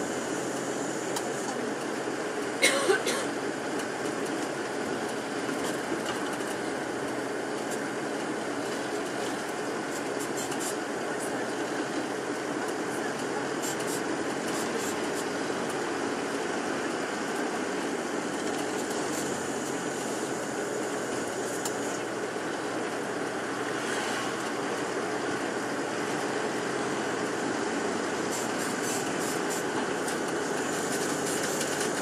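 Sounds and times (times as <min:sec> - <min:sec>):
bus engine and road noise: 0:00.0 - 0:32.0.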